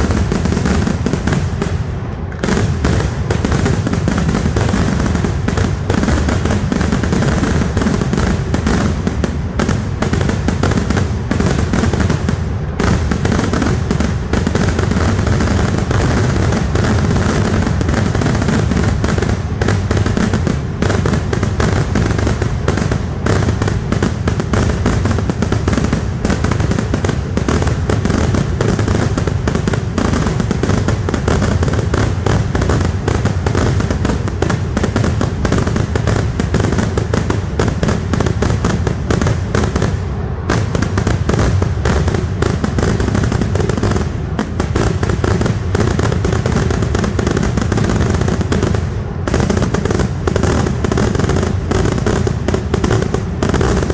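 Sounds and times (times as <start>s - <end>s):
firecracker bangs: 0.0s - 53.9s.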